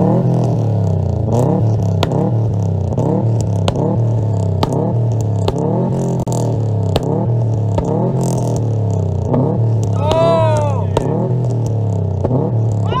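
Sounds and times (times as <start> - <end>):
car engine revving: 0.0 - 13.0
exhaust snaps: 1.2 - 13.0.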